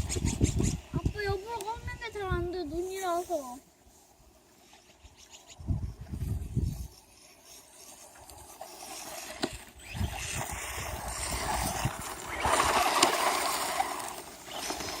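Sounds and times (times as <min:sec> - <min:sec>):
toy truck motor in snow: 0:00.0 - 0:03.6, 0:04.8 - 0:15.0.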